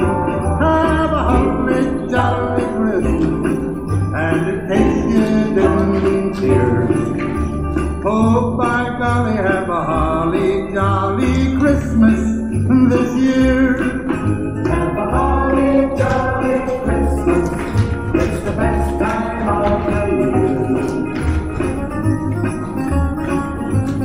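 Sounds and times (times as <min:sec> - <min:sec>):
sleigh bells shaking: 0:00.0 - 0:24.0
upbeat christmas music: 0:00.0 - 0:24.0.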